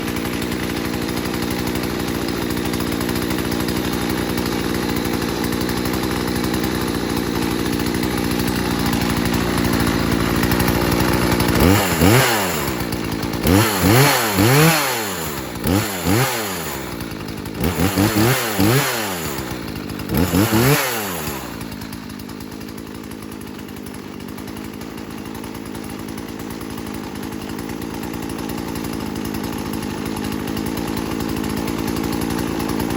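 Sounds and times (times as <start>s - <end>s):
chainsaw idling and revving: 0.0s - 32.9s.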